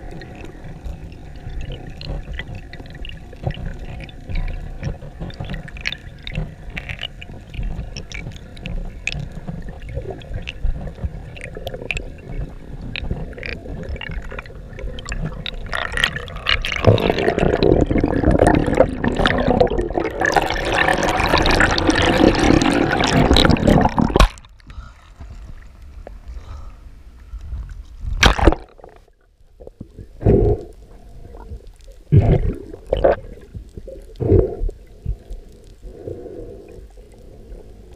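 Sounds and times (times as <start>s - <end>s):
sharp clicks underwater: 0.0s - 26.2s, 27.4s - 37.5s
water rushing and bubbling: 0.0s - 26.4s, 28.0s - 37.9s
muffled wash of sea water: 0.0s - 28.8s, 29.4s - 37.9s
underwater low rumble: 0.0s - 37.9s.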